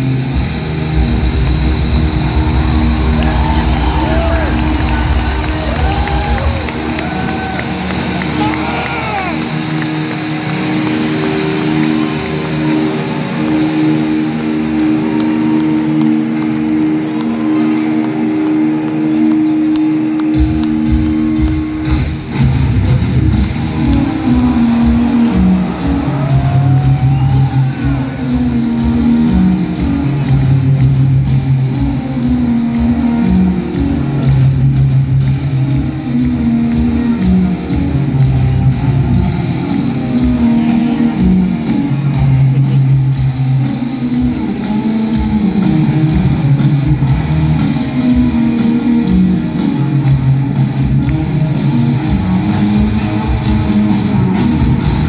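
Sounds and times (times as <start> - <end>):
bass guitar: 0.0 - 55.0
distorted electric guitars: 0.0 - 55.0
drums: 0.0 - 55.0.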